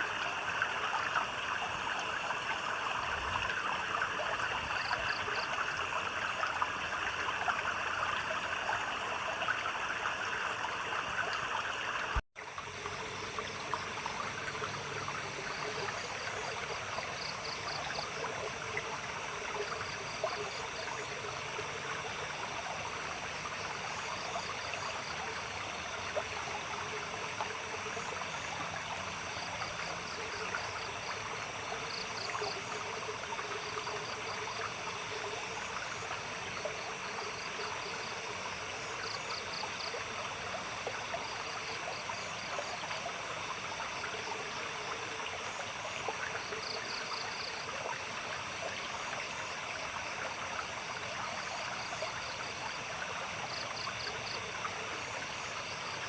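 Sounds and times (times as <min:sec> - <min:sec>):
high insect hum: 0:00.0 - 0:56.0
insects chirping in trills: 0:00.0 - 0:56.0
water trickling: 0:00.0 - 0:56.0.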